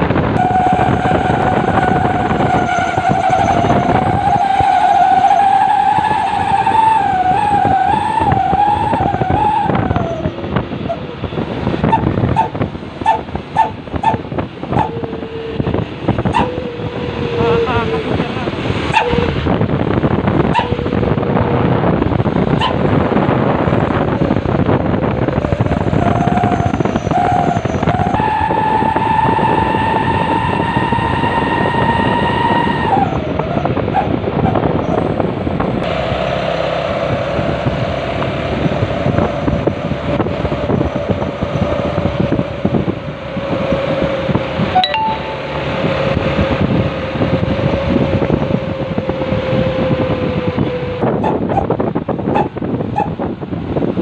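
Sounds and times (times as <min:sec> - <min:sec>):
steady howling tone: 0:00.0 - 0:53.4
truck diesel engine barking exhaust: 0:00.0 - 0:53.8.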